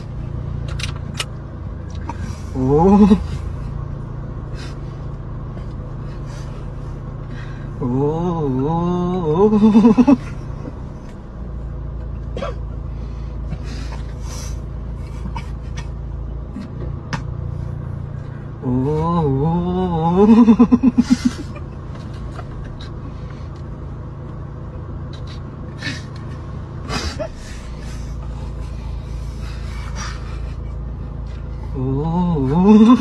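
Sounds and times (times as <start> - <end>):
car cabin rumble: 0.0 - 33.0.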